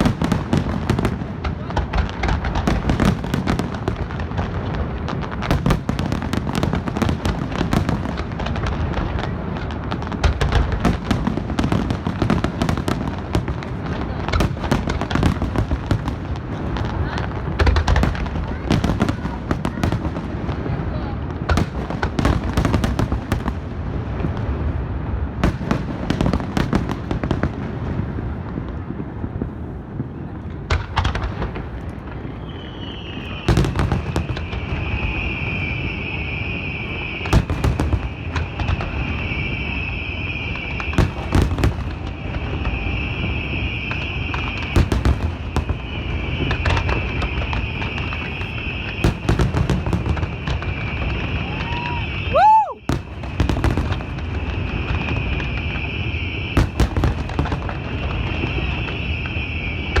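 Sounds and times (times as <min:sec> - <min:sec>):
fireworks bursting with bangs: 0:00.0 - 1:00.0.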